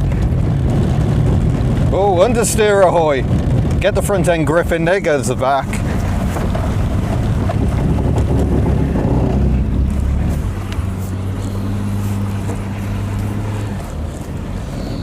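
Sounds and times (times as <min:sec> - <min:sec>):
car engine working hard: 0:00.0 - 0:15.0.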